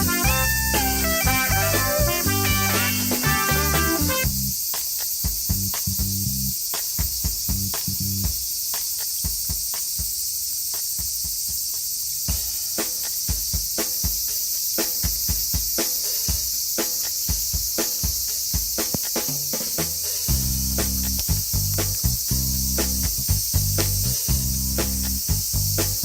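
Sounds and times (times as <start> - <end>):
insect chorus: 0.1 - 26.0.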